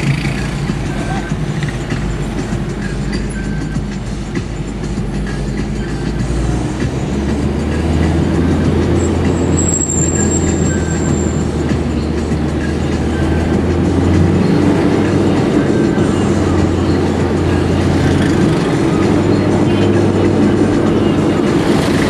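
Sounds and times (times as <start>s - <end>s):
car engine rumble and road noise: 0.0s - 22.0s.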